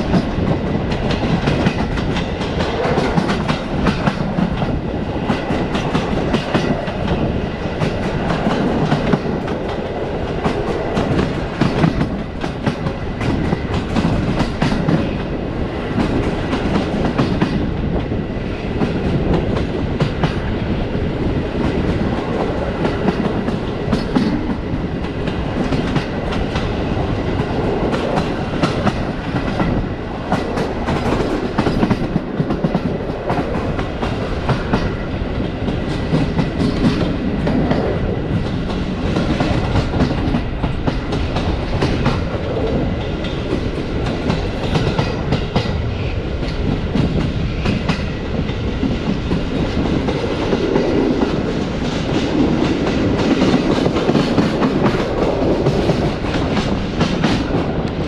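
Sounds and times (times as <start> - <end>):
train rumble: 0.0 - 58.0
train wheels clacking on rails: 0.0 - 58.0.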